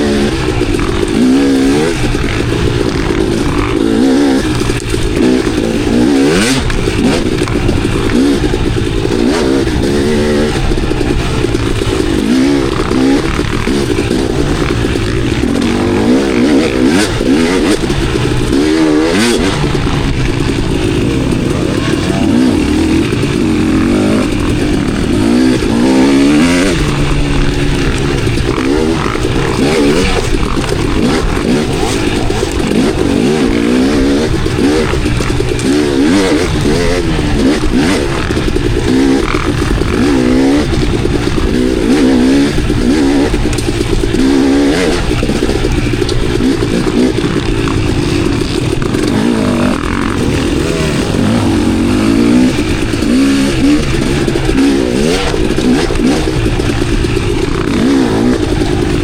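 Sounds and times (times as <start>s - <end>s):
bike knocks and rattles: 0.0s - 59.0s
dirt bike engine revving: 0.0s - 59.0s.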